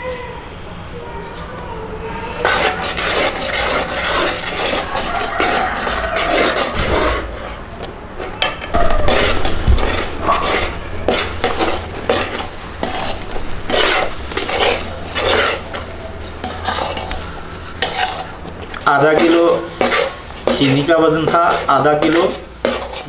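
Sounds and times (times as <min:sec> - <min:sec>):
metal spatula scraping a pot: 0:02.4 - 0:23.0.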